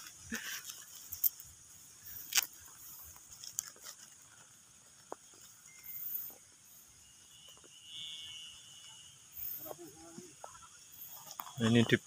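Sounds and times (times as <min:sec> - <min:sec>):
steady high outdoor hiss: 0:00.0 - 0:12.0.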